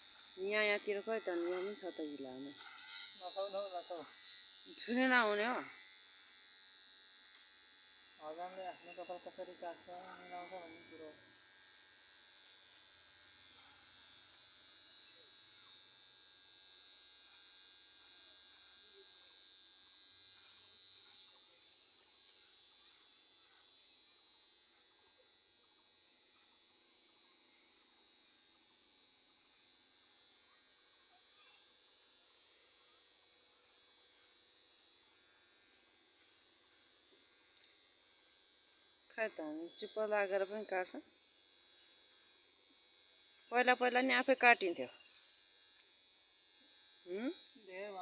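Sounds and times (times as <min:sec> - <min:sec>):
electric hair clipper buzzing: 0:00.0 - 0:48.0.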